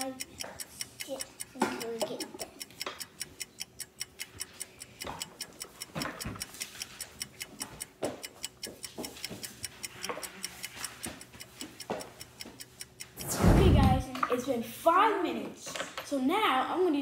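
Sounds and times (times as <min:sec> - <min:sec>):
clock ticking fast: 0:00.0 - 0:14.1.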